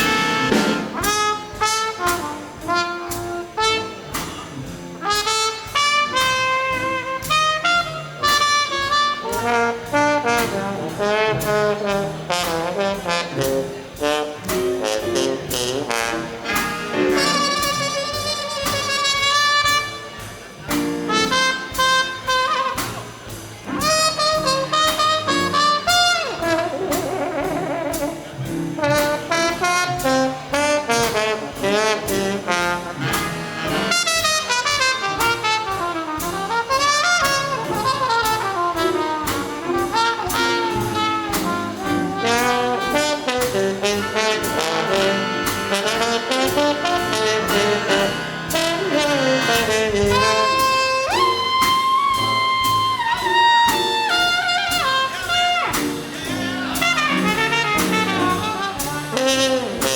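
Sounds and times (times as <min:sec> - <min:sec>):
big band playing swing jazz: 0:00.0 - 0:59.9
trombone: 0:00.0 - 0:59.9
trumpet: 0:00.0 - 0:59.9.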